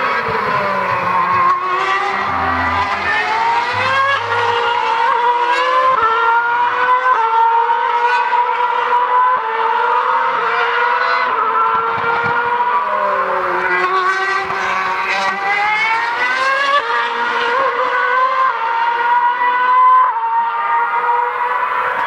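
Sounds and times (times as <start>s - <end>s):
racing car engines at high revs: 0.0s - 22.0s.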